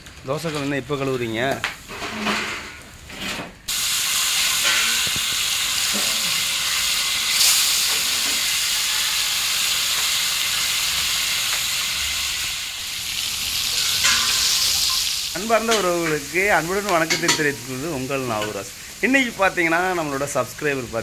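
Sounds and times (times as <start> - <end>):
fish sizzling in hot oil: 3.7 - 21.0.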